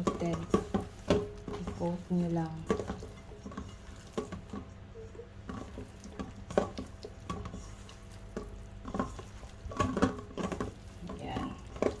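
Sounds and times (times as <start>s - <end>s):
hands squishing chicken in flour: 0.0s - 12.0s.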